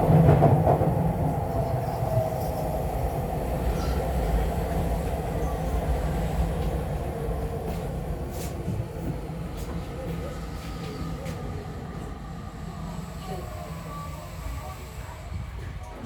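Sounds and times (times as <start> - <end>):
faint train hum: 0.0 - 16.0
train wheels rumbling on rail: 0.0 - 16.0.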